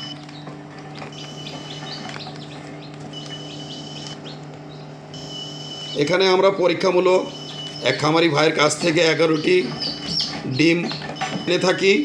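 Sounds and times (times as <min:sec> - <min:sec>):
chicks peeping: 0:00.0 - 0:12.0
fan hum: 0:00.0 - 0:12.0.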